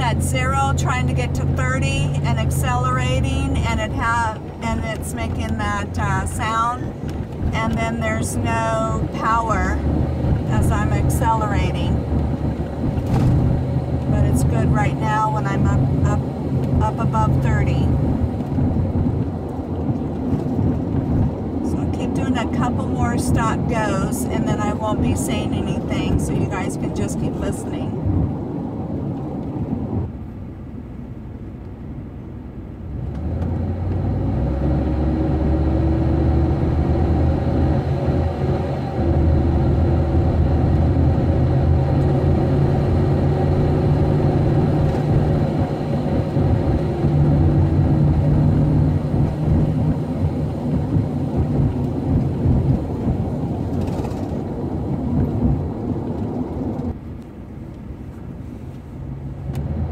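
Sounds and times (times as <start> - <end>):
road noise: 0.0 - 59.9
van engine inside cab: 0.0 - 59.9.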